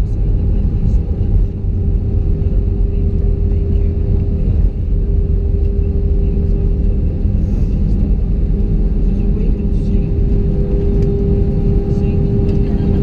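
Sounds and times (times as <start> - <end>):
engines and wheels rumbling: 0.0 - 13.0
steady hum: 0.0 - 13.0.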